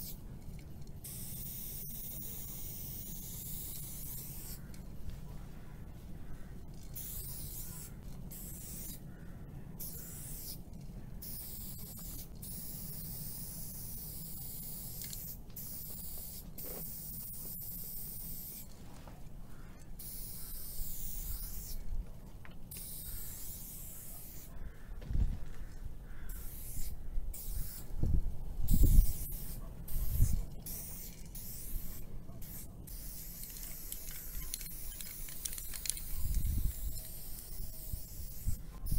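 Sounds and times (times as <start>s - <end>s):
spray paint can hissing: 0.0s - 4.7s, 6.7s - 9.0s, 9.8s - 18.7s, 20.0s - 21.8s, 22.7s - 24.5s, 26.3s - 27.9s, 28.7s - 38.9s.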